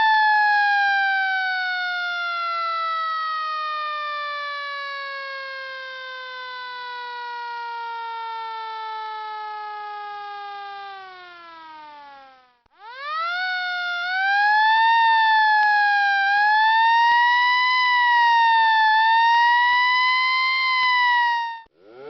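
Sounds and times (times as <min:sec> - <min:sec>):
air-raid siren wailing: 0:00.0 - 0:22.0.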